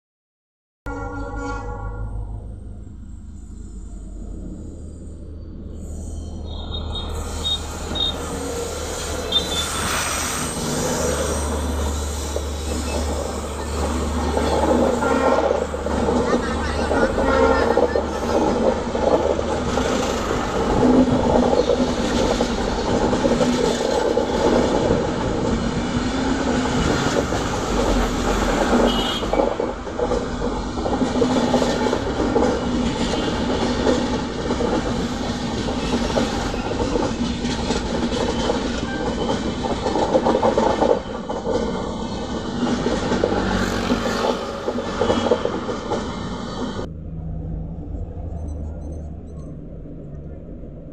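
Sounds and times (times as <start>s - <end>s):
train coaches rumbling: 1.0s - 50.9s.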